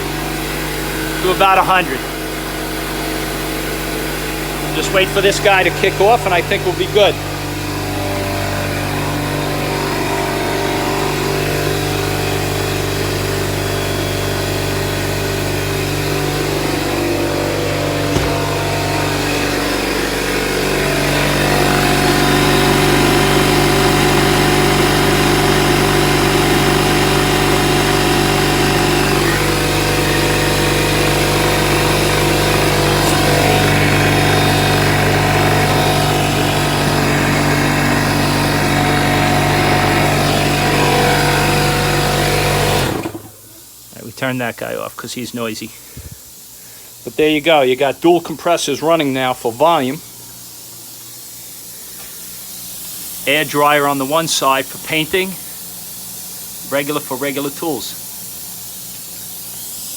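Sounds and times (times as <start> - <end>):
air compressors running: 0.0 - 59.9.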